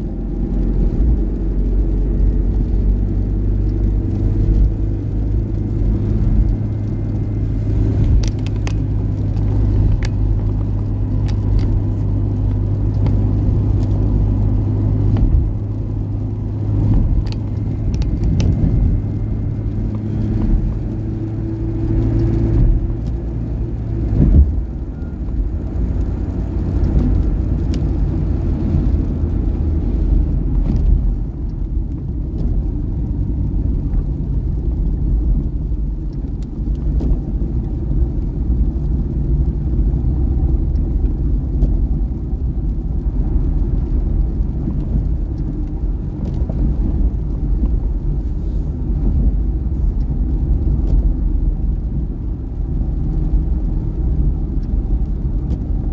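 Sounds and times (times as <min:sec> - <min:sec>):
engine and tyre rumble: 0:00.0 - 0:55.9.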